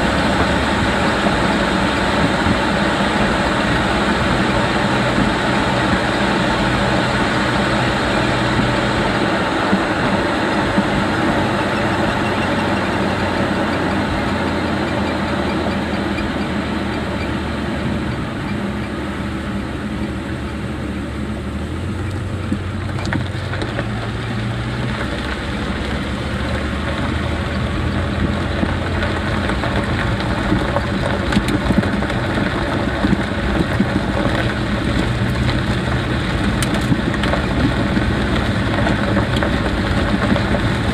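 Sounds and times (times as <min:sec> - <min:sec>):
car engine running: 0:00.0 - 0:40.9
road and tyre noise: 0:00.0 - 0:40.9.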